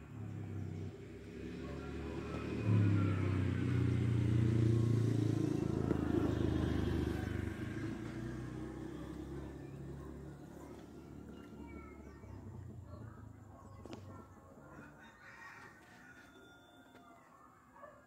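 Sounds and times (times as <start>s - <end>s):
vehicle engine passing by: 0.0s - 15.8s.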